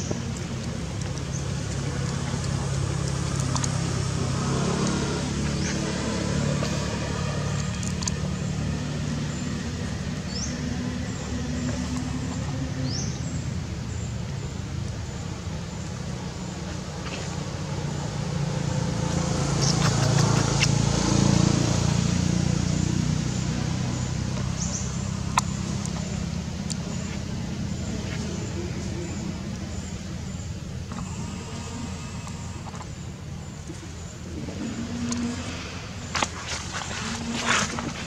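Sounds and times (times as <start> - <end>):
vehicle engine hum: 0.0 - 38.0.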